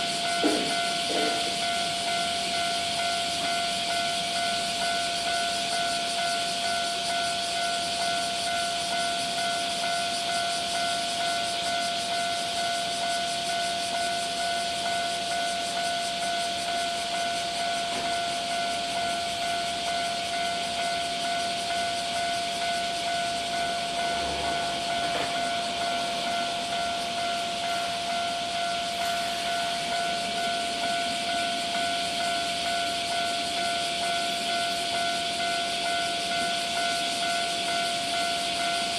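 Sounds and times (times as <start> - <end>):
level crossing warning alarm ringing: 0.0 - 38.9.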